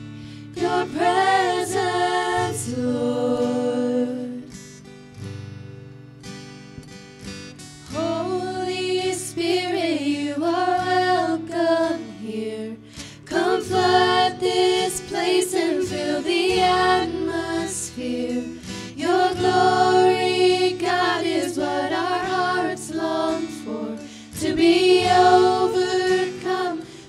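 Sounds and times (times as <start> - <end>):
acoustic guitar: 0.0 - 27.0
women singing in harmony: 0.4 - 4.6, 7.9 - 27.0.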